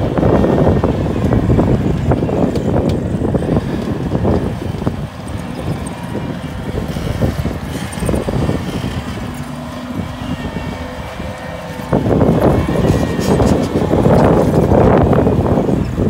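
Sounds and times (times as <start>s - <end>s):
loader diesel engine under load: 0.0s - 16.0s.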